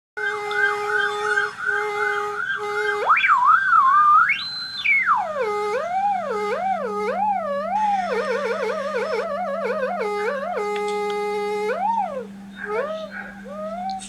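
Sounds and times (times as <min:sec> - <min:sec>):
low steady drone: 0:00.2 - 0:14.0
theremin-like gliding tone: 0:00.2 - 0:14.0.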